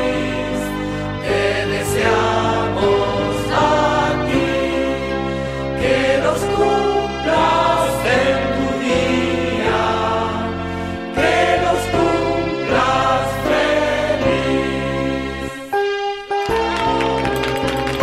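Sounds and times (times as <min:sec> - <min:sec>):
choir singing sustained chords: 0:00.0 - 0:16.4.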